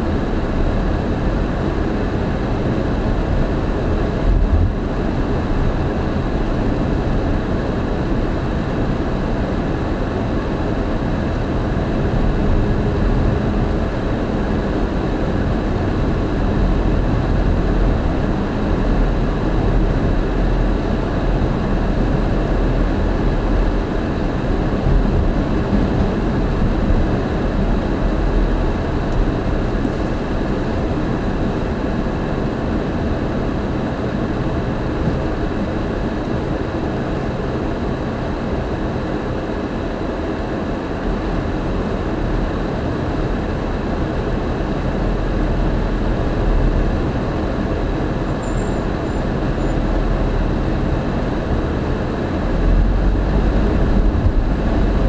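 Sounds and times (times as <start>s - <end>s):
car engine rumble: 0.0s - 55.0s.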